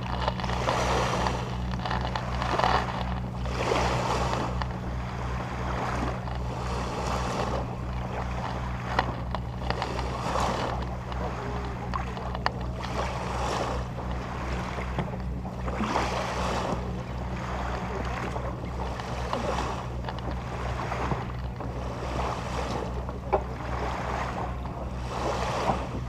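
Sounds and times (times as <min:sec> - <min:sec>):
boat engine humming: 0:00.0 - 0:26.0
water rushing: 0:00.0 - 0:26.0
wind: 0:00.0 - 0:26.0.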